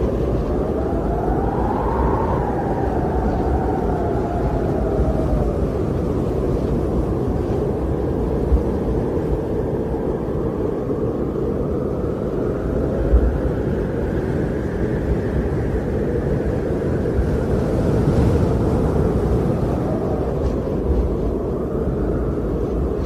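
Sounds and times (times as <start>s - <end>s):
faint wind whistle: 0.0s - 23.0s
strong wind roaring: 0.0s - 23.0s.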